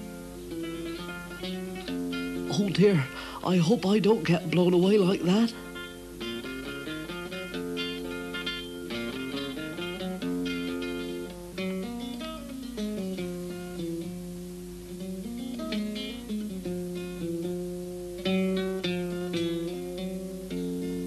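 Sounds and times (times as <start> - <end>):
acoustic guitar picking a melody: 0.0 - 21.0.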